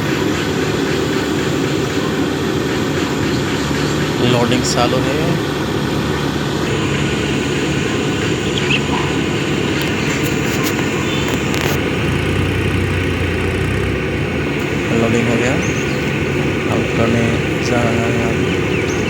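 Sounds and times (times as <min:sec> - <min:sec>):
deeper engine drone: 0:00.0 - 0:19.0
diesel engine running: 0:00.0 - 0:19.0.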